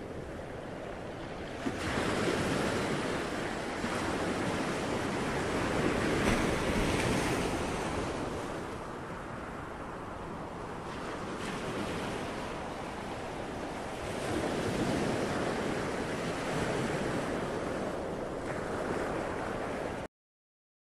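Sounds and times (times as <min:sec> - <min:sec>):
ocean waves washing: 0:00.0 - 0:20.1.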